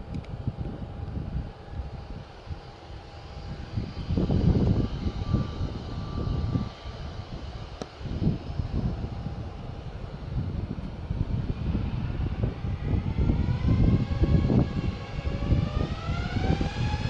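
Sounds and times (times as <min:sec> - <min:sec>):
jet engines rumbling: 0:00.0 - 0:17.0
thin steady whine: 0:00.0 - 0:17.0.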